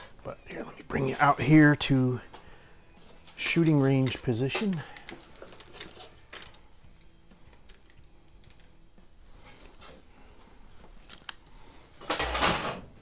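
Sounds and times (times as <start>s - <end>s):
handling noises: 0.0s - 13.0s.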